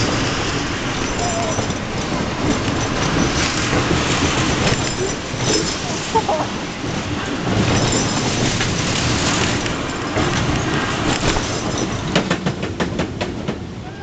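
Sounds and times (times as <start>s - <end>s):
roller coaster wheels rumbling: 0.0s - 14.0s.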